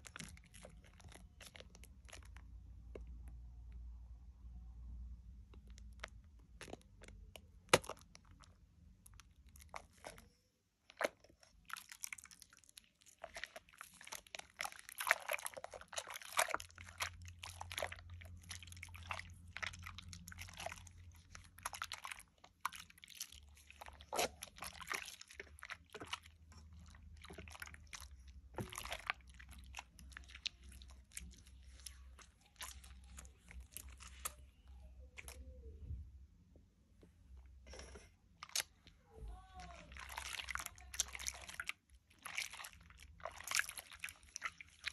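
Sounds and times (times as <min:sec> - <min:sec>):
wet soap lather squishing: 0:00.0 - 0:44.9.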